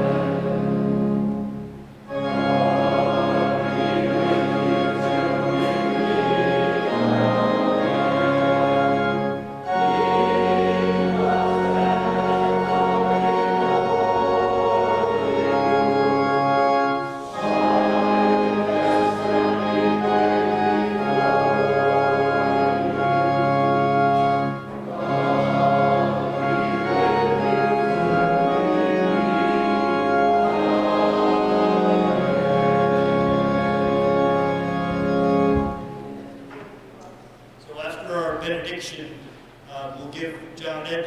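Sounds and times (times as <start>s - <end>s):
church organ chords: 0.0s - 41.0s.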